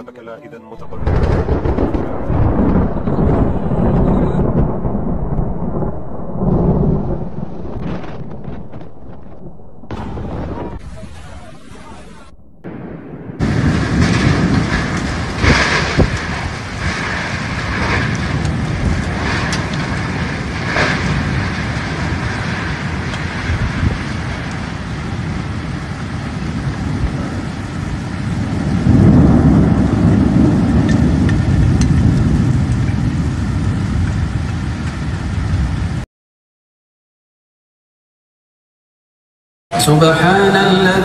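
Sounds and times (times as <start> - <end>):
storm wind blowing hard: 0.8 - 36.0
rain: 0.8 - 36.1.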